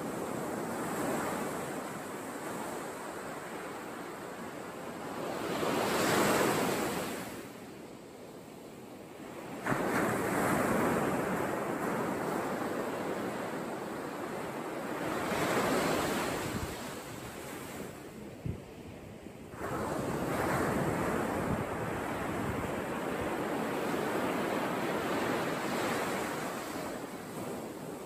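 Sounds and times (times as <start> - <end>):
small waves breaking on shore: 0.0 - 7.6, 9.1 - 28.0
wind: 0.0 - 28.0.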